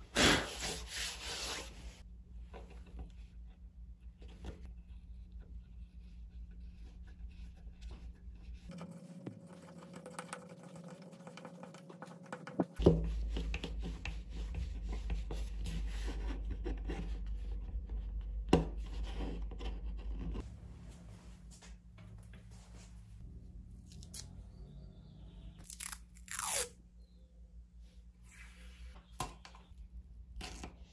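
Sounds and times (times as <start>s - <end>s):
low steady hum: 1.8s - 30.9s.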